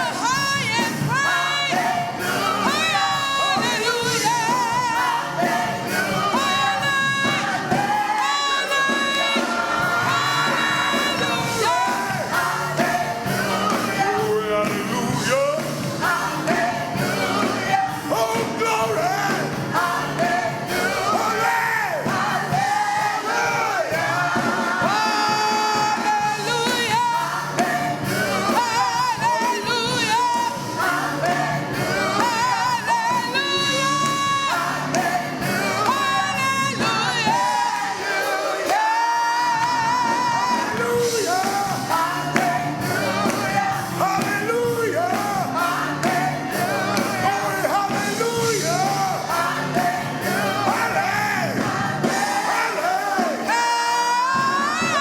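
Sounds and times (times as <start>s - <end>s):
band with steady bass line: 0.0s - 55.0s
person singing with vibrato: 0.0s - 55.0s.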